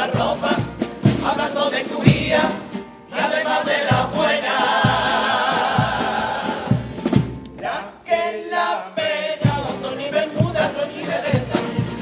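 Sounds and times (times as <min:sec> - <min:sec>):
men's chorus singing in harmony: 0:00.0 - 0:07.0, 0:07.6 - 0:12.0
regular drum beat: 0:00.0 - 0:07.9, 0:09.0 - 0:12.0.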